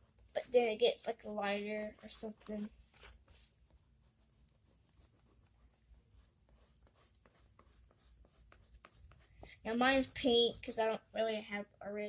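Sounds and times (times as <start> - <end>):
colouring tool scratching paper: 0.0 - 11.1.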